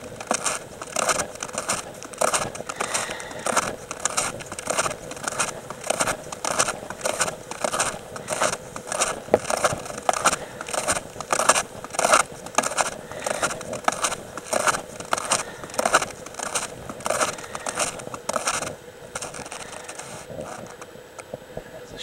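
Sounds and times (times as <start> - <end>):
snowshoe footsteps crunching snow: 0.0 - 20.9.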